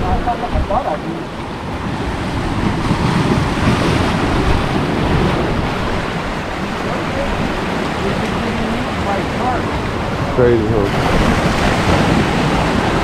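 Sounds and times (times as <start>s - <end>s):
surf washing: 0.0s - 13.0s
wind rumbling on microphone: 0.0s - 13.0s.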